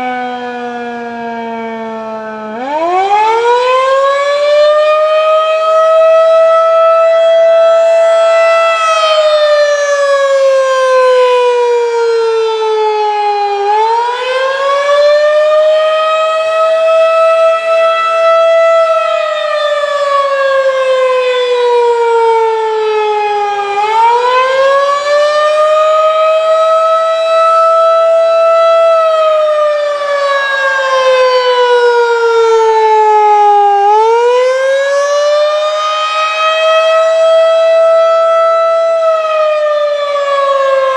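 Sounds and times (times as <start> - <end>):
civil defense siren wailing: 0.0 - 40.9.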